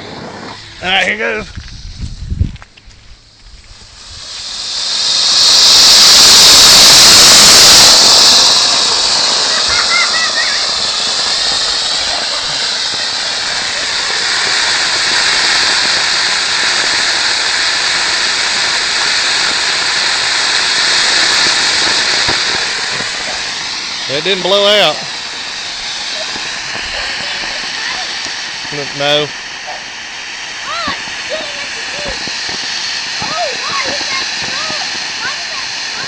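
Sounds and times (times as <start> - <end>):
rocket motor roaring hiss: 0.0 - 36.0.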